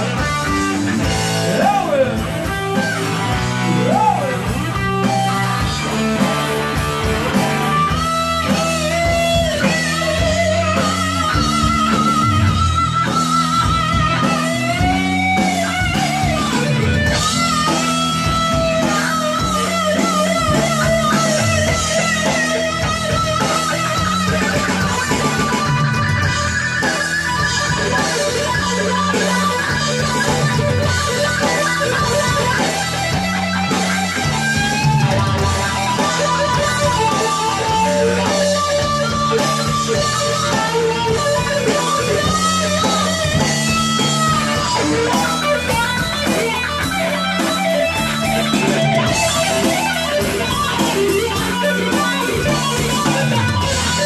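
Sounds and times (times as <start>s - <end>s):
drums: 0.0s - 54.0s
electric guitar lead: 0.0s - 54.0s
low guitar riff: 0.0s - 54.0s.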